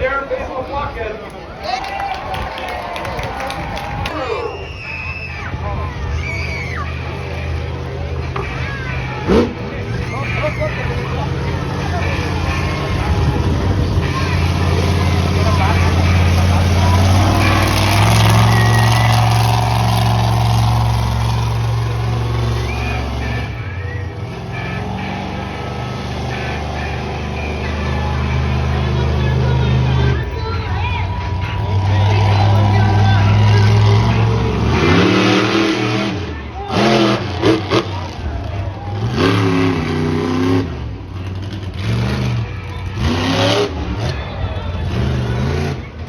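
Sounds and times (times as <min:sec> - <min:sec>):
truck engine idling: 0:03.4 - 0:46.0.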